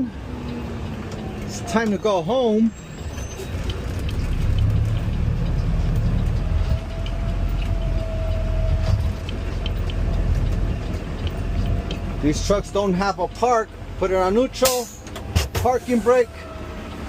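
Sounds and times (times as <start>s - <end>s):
truck low rumble: 0.0s - 17.0s.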